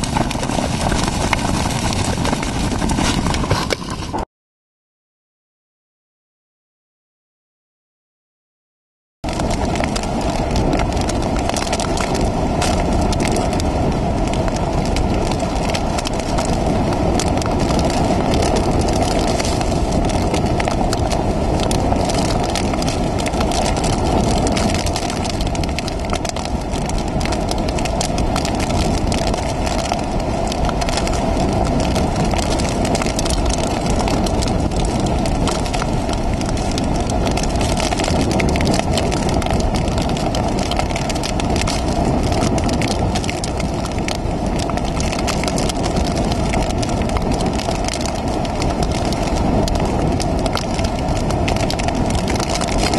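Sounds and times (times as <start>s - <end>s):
driving rain crackle: 0.0s - 4.2s, 9.2s - 52.9s
strong wind buffeting microphone: 0.0s - 4.3s, 9.2s - 52.9s.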